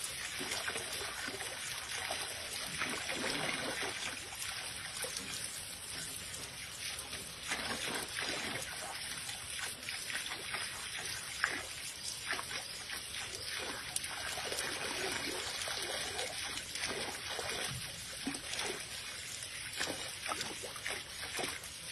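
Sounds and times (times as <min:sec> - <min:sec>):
small water splashes: 0:00.0 - 0:21.9
water trickling from hose: 0:00.0 - 0:21.9.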